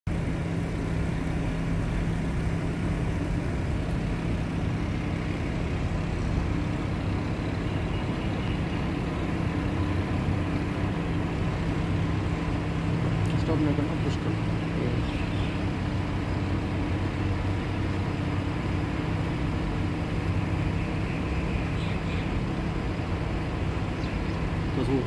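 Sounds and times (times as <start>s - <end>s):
car cabin noise: 0.1s - 25.0s
car engine drone: 0.1s - 25.0s.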